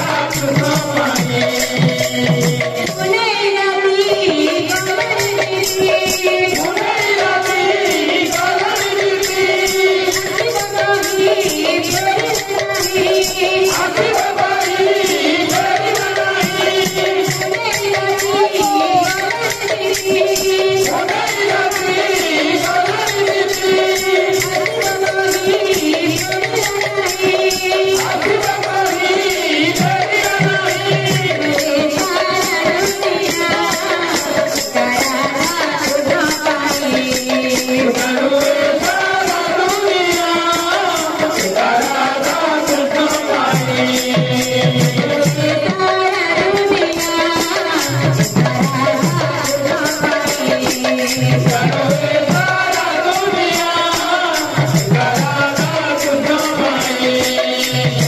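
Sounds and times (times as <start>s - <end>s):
person singing into a microphone: 0.0s - 58.0s.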